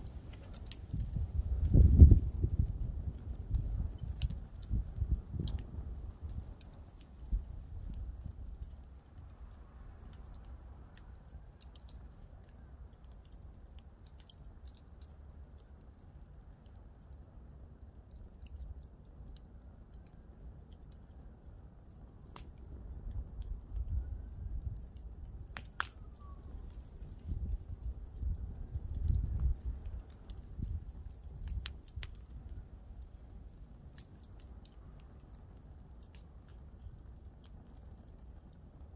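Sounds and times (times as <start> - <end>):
campfire wood crackling: 0.0 - 38.9.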